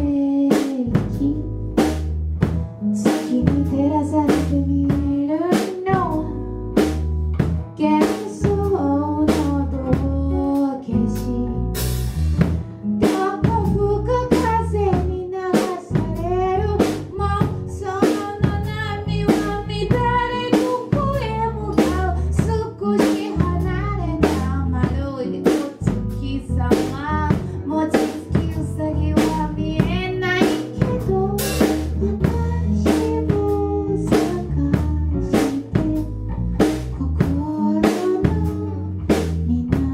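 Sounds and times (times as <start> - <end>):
drum kit beat: 0.0 - 10.4, 11.1 - 39.9.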